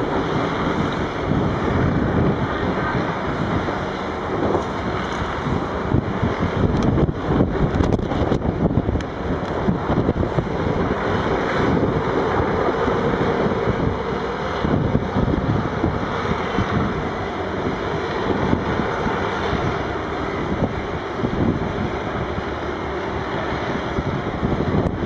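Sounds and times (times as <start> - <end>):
diesel engines of heavy vehicles: 0.0 - 25.0
wind buffeting microphone: 0.0 - 25.0.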